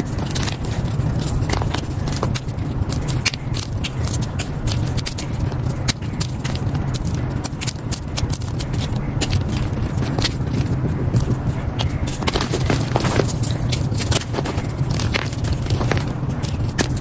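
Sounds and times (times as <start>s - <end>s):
chalk crunching and crumbling: 0.0s - 17.0s
steady low hum: 0.0s - 17.0s.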